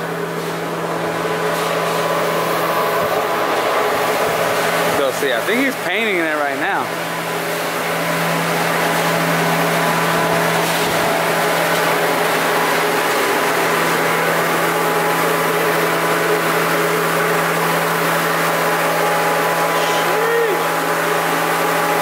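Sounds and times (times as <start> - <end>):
machinery drone: 0.0 - 22.0.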